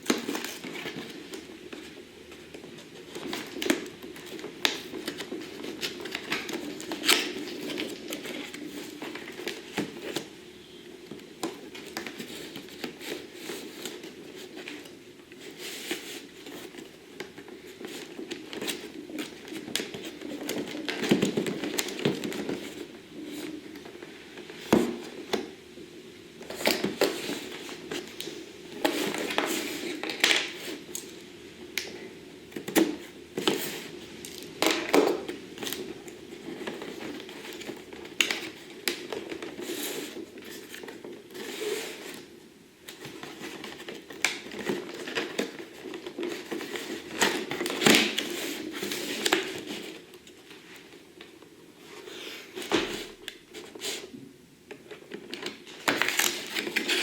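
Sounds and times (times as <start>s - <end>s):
packaging crinkling and rustling: 0.0s - 57.0s.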